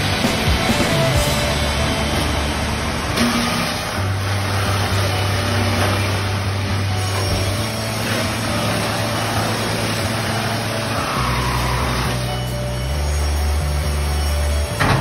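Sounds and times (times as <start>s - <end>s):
band sawmill running: 0.0s - 15.0s.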